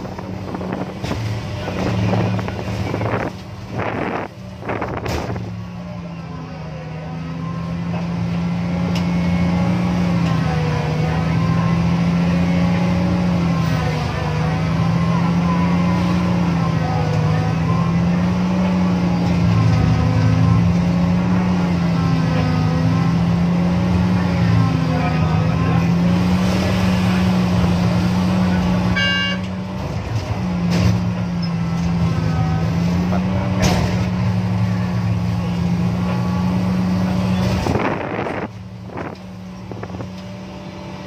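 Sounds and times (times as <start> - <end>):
excavator diesel engine droning: 0.0 - 41.0.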